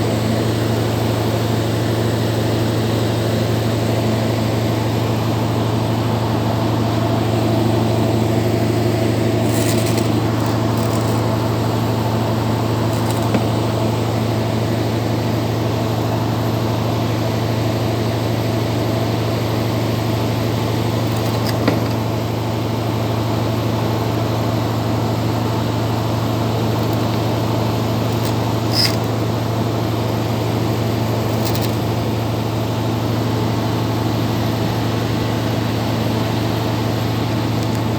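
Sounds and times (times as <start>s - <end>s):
air conditioning compressor humming: 0.0s - 37.9s.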